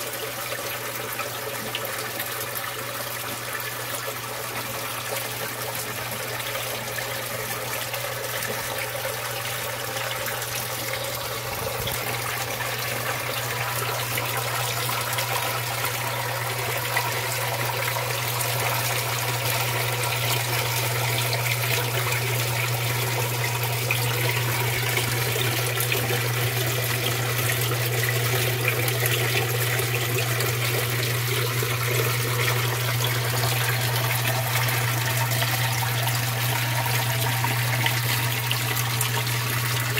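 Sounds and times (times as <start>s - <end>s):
filter pump humming: 0.0s - 39.9s
water trickling and splashing: 0.0s - 39.9s.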